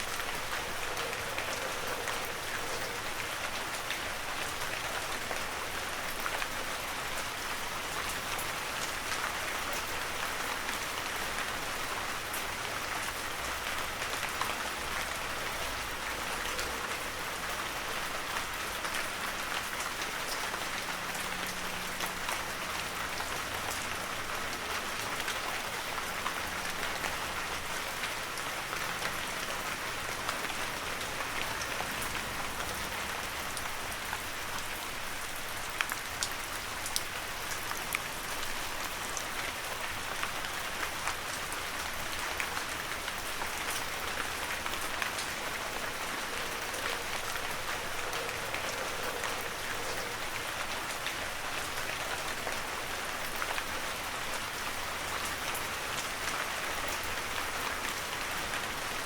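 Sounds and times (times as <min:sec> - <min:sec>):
heavy rain: 0:00.0 - 0:59.0
raindrops ticking on surfaces: 0:00.0 - 0:59.0.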